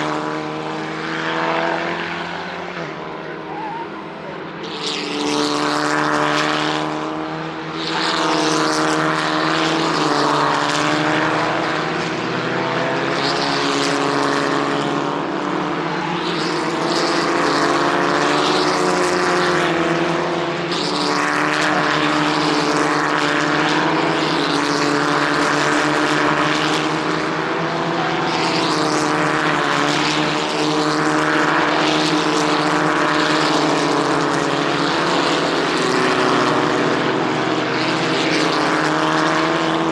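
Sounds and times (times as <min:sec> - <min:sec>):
race car engines droning: 0:00.0 - 0:39.9.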